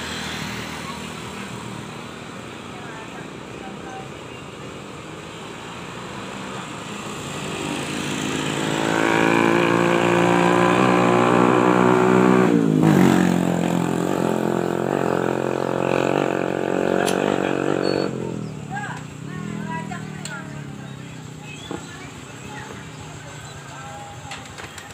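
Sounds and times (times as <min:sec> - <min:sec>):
motor engine passing by: 0:00.0 - 0:04.0, 0:05.3 - 0:23.9.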